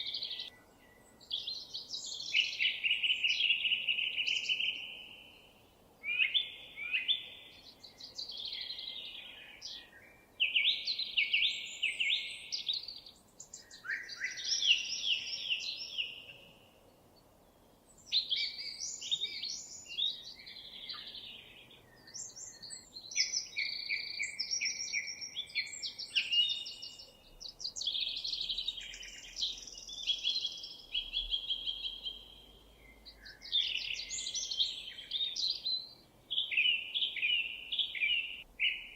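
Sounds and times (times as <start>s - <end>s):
songbirds trilling and chirping: 0.0s - 38.9s.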